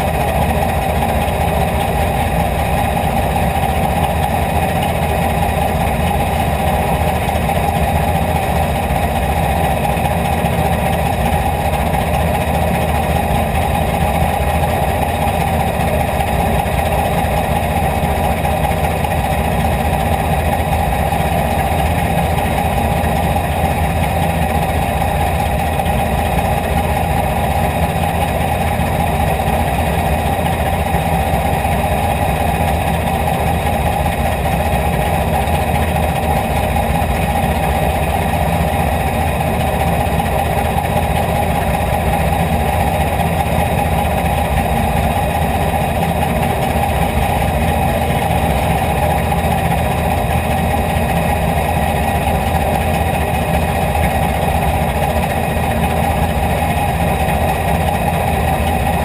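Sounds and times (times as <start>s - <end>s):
race car engine idling: 0.0s - 59.0s.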